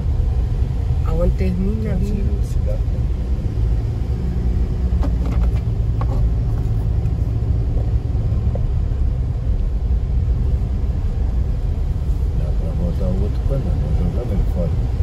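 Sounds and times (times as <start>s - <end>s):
engine road and wind rumble: 0.0s - 15.0s.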